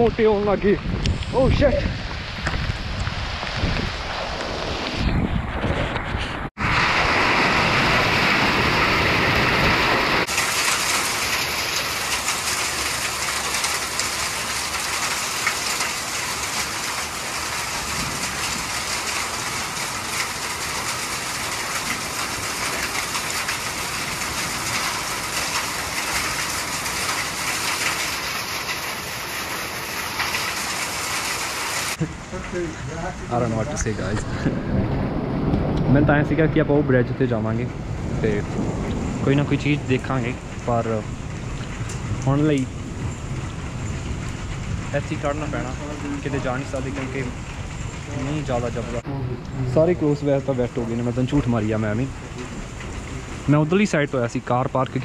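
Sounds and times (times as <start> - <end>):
heavy rain and hail: 0.0 - 55.0.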